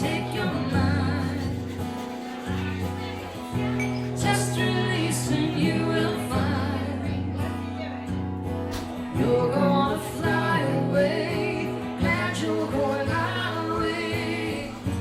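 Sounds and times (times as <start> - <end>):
person singing: 0.0 - 2.1, 3.5 - 7.6, 9.0 - 15.0.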